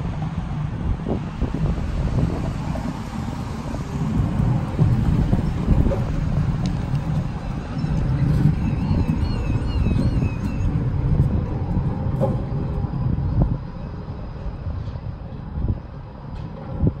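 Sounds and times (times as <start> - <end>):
tram wheels rumbling on rails: 0.0 - 17.0.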